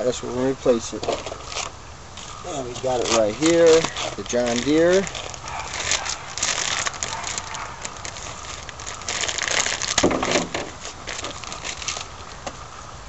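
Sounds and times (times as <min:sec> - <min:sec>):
air filter wrapping crackling: 0:00.1 - 0:12.7.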